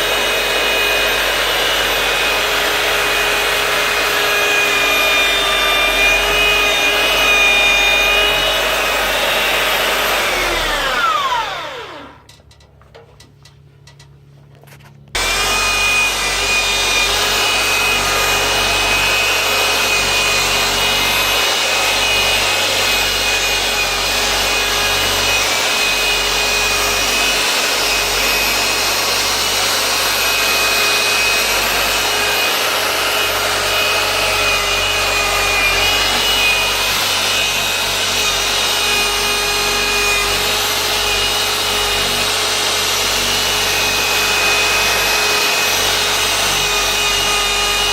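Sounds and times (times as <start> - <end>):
power tool motor whine: 0.0 - 12.3, 15.2 - 47.9.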